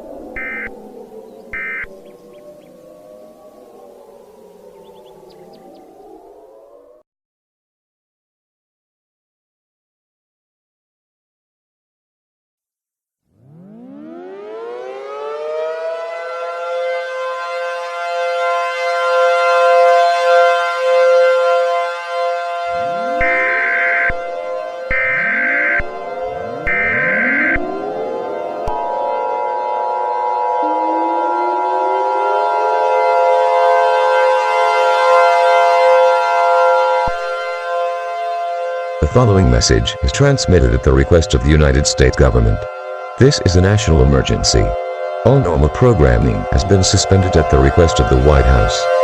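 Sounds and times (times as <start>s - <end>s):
civil defense siren: 0.0s - 7.0s, 13.3s - 49.0s.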